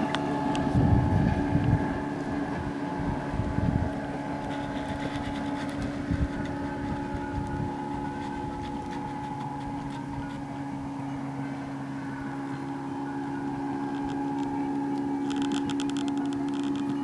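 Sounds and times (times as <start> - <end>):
low rumbling: 0.0 - 17.0
motor running steadily: 0.0 - 17.0.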